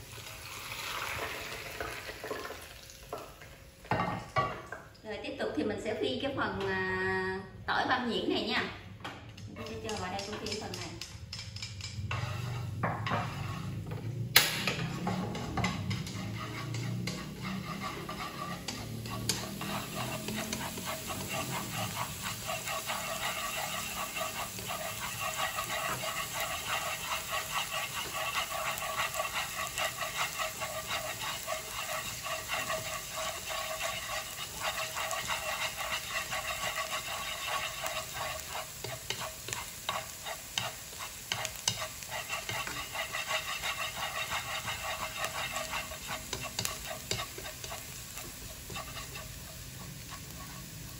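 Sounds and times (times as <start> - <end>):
garlic sizzling in hot oil: 0.0 - 3.4, 9.8 - 50.9.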